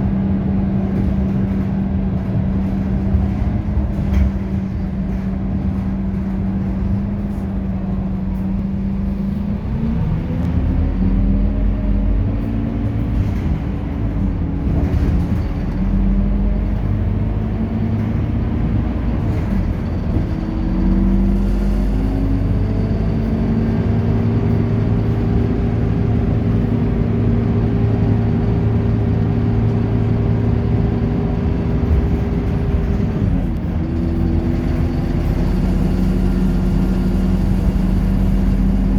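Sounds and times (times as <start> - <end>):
bus diesel engine accelerating: 0.0 - 38.9.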